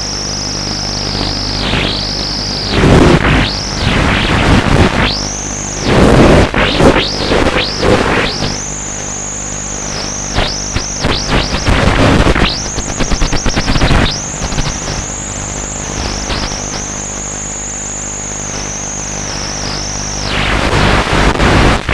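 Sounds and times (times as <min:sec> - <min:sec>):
whine of electric drone motors: 0:00.0 - 0:21.9.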